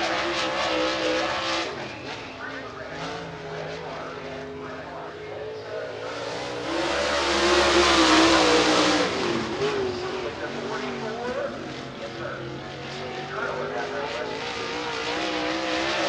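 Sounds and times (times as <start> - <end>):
race car engine passing by: 0.0 - 16.0.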